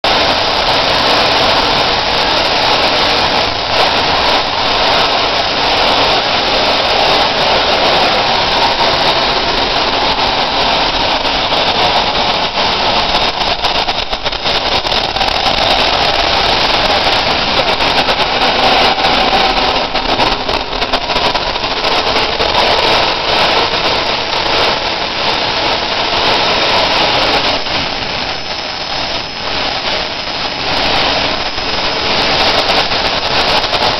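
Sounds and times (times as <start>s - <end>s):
jet engine roaring: 0.0s - 33.9s.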